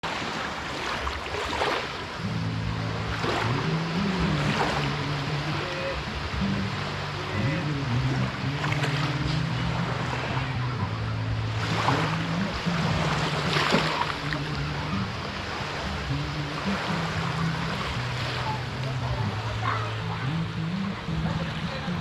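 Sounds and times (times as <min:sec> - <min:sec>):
sea surf washing onto beach: 0:00.0 - 0:22.0
low held tone shifting pitch: 0:02.2 - 0:22.0.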